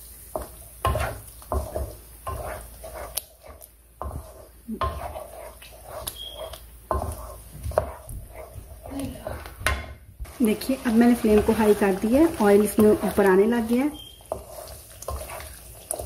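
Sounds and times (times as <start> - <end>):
wooden spatula scraping a pan: 0.1 - 16.0.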